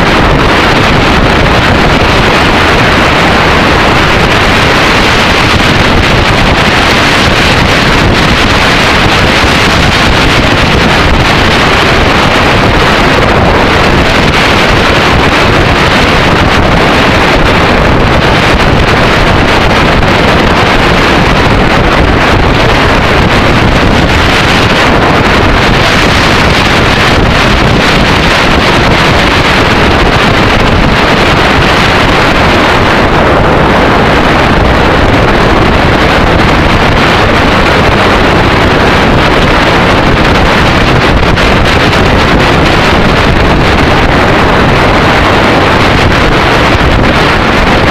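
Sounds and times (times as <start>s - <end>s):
wind rush on microphone: 0.0s - 47.9s.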